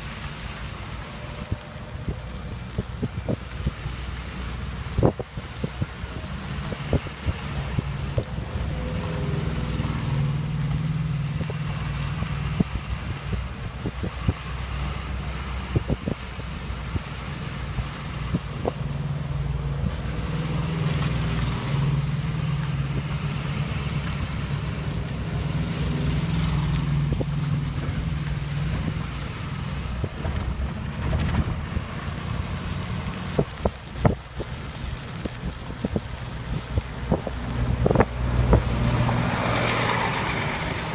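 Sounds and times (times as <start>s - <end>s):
low engine hum: 0.0s - 40.9s
wind buffeting microphone: 0.0s - 40.9s.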